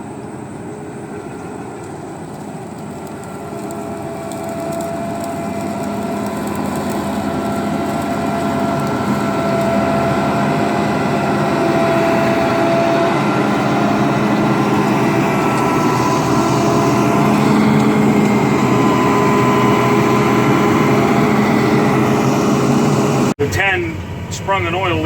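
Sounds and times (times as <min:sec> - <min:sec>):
combine harvester engine running: 0:00.0 - 0:25.0
steady whine: 0:00.0 - 0:25.0.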